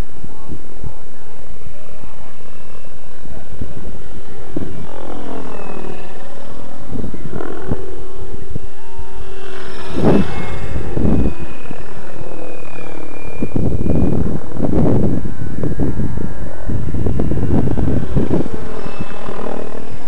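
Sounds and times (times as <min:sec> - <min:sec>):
motor and gear whine: 0:00.0 - 0:20.0
wind gusts on microphone: 0:00.0 - 0:20.0
helicopter rotor whirring: 0:02.2 - 0:20.0.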